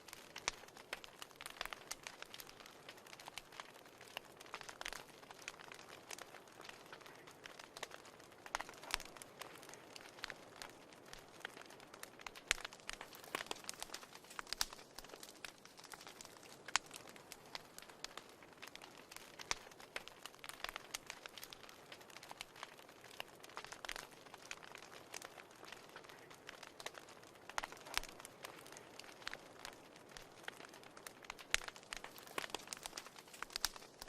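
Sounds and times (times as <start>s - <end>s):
faint hiss of fire: 0.0s - 34.0s
fire crackling and popping: 0.0s - 34.0s.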